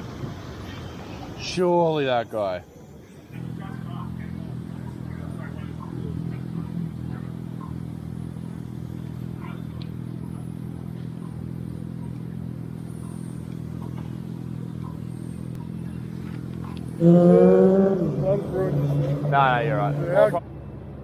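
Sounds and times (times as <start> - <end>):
low motor hum: 2.7 - 20.4.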